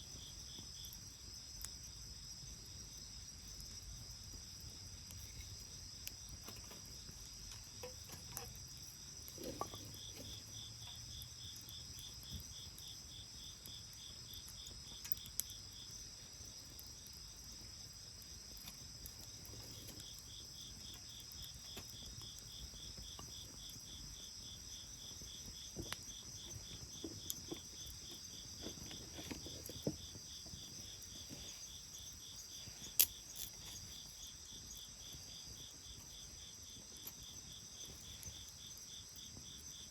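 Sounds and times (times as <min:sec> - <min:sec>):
bonfire wood popping and crackling: 0:00.0 - 0:39.8
crickets chirping: 0:00.0 - 0:39.9.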